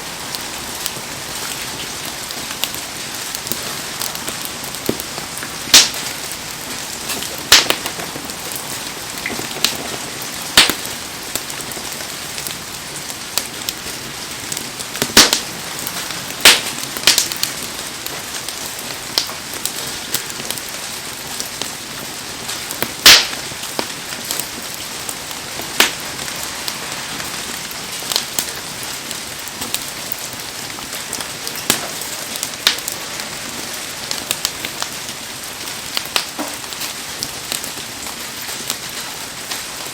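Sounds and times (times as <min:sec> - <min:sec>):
bonfire popping and crackling: 0:00.0 - 0:39.9
heavy rain falling: 0:00.0 - 0:39.9.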